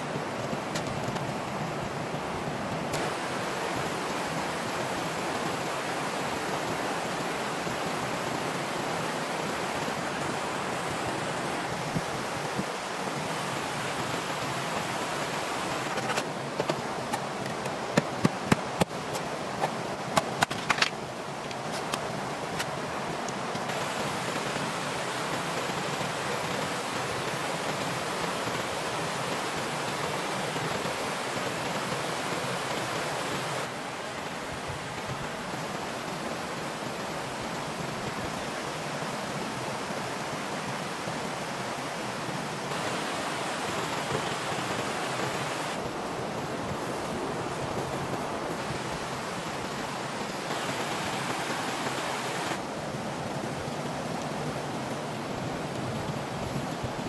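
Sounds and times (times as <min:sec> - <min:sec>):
forest stream rushing: 0:00.0 - 0:57.0.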